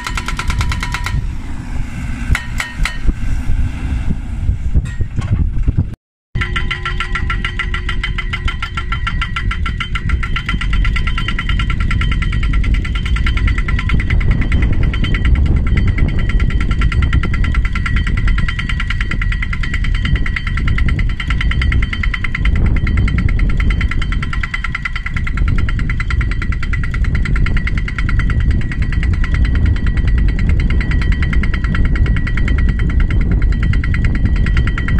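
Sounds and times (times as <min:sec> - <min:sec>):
pile driver hammering rattle: 0:00.0 - 0:01.2, 0:02.4 - 0:03.1, 0:06.4 - 0:34.9
engine running under load: 0:00.0 - 0:34.9
steady high whine: 0:00.0 - 0:34.9.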